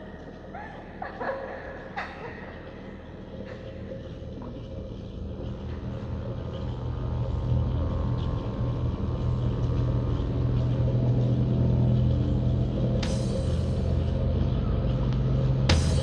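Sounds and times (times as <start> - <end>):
low rumbling drone: 0.0 - 16.0.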